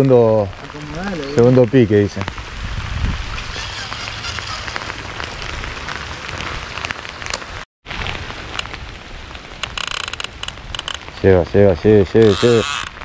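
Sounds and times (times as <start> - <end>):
raindrop ticks: 0.0 - 2.5, 4.0 - 13.0
rain falling: 0.0 - 13.0.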